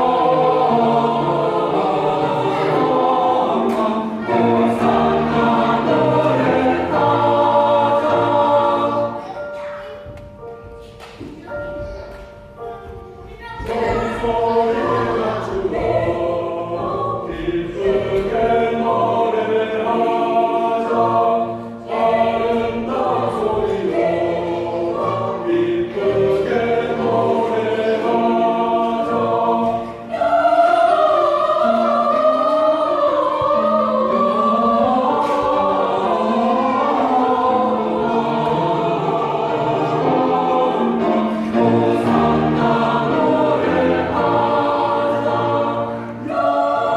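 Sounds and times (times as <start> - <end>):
church choir singing: 0.0 - 46.9.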